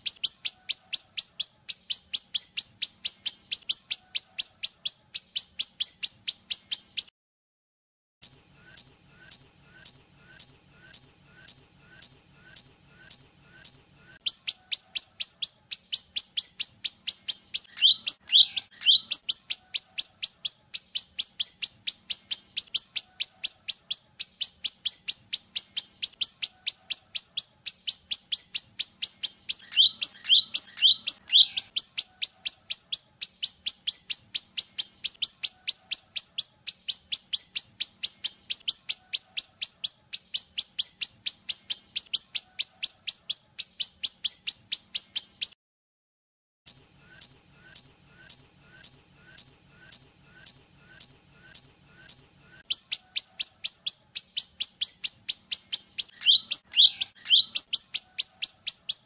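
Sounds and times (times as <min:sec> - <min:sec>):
bird sharp high chirps: 0:00.0 - 0:07.1, 0:08.2 - 0:45.6, 0:46.7 - 0:59.0.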